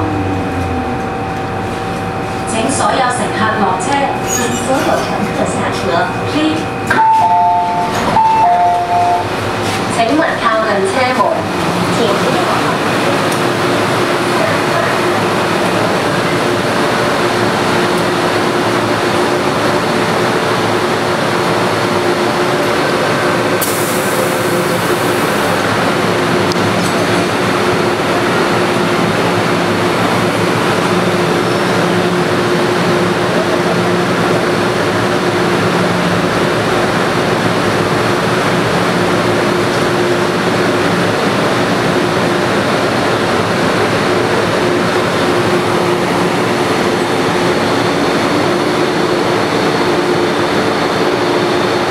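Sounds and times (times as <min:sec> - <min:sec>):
train rumbling with low hum: 0:00.0 - 0:51.9.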